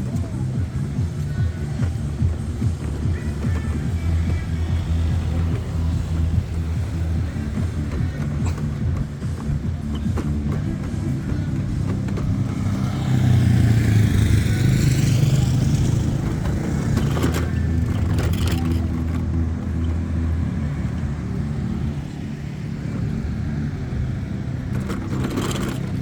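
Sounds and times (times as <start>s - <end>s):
vehicle engine passing by: 0.0s - 26.0s.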